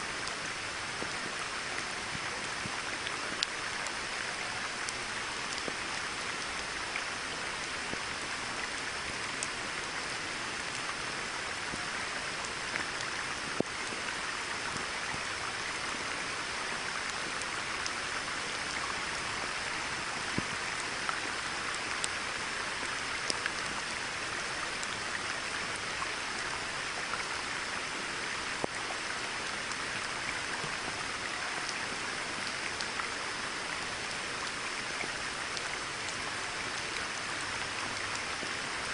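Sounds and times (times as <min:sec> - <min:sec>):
rain falling on a pond: 0:00.0 - 0:38.9.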